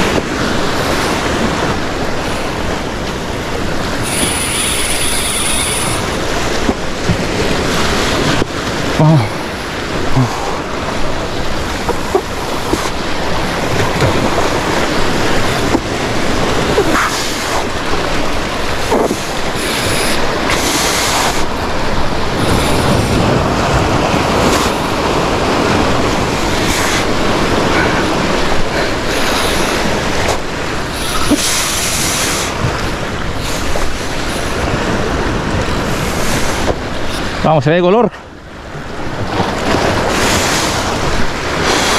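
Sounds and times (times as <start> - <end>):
ocean surf breaking: 0.0 - 41.9.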